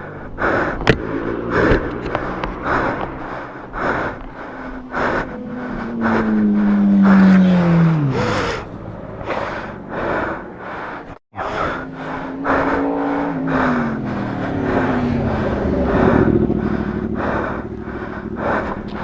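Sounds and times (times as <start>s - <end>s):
heavy breathing: 0.0s - 19.0s
motor vehicle passing: 0.0s - 19.0s.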